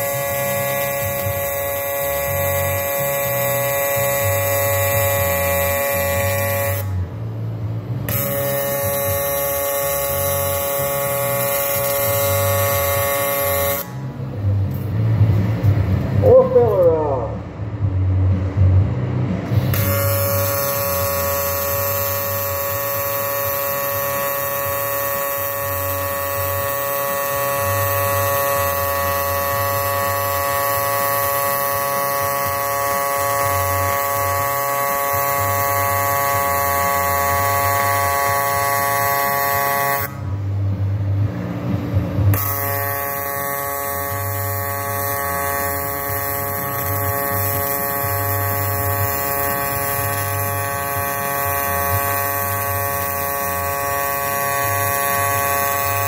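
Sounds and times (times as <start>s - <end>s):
welding arc buzzing: 0.0s - 16.7s, 19.4s - 56.0s.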